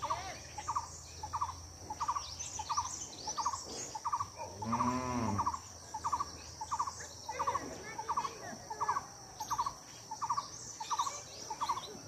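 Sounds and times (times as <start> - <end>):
birds twittering: 0.0 - 12.0
insect drone: 0.0 - 12.0.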